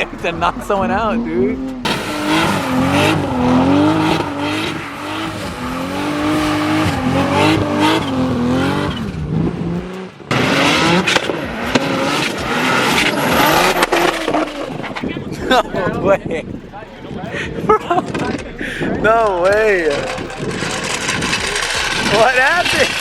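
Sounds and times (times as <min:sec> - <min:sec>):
car engine revving: 0:00.0 - 0:23.0
tire noise: 0:00.0 - 0:23.0.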